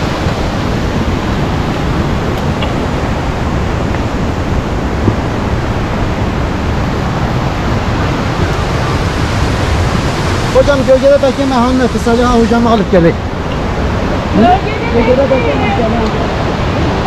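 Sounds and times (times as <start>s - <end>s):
waterfall stream rushing: 0.0s - 17.0s.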